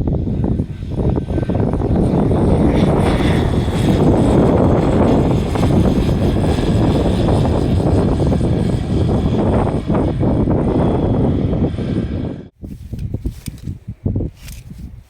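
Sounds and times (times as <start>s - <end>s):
propeller aircraft engine running: 0.0s - 15.0s.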